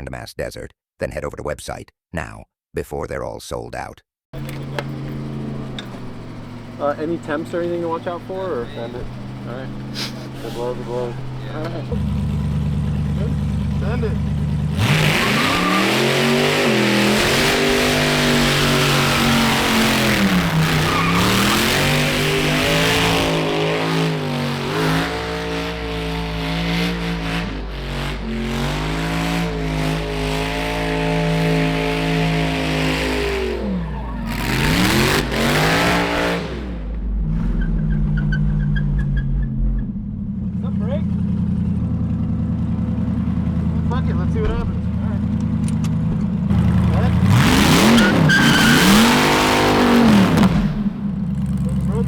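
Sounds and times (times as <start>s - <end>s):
car engine revving: 4.4s - 52.0s.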